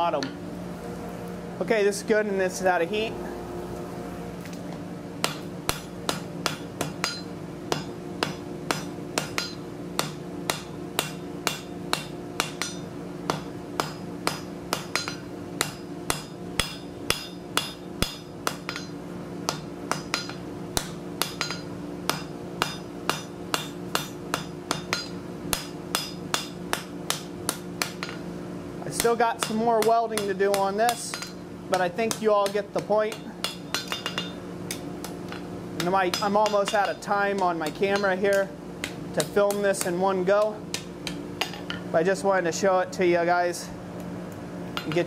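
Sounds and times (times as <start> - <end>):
hammer striking steel on anvil: 5.2 - 28.2, 29.0 - 41.8, 44.8 - 45.0.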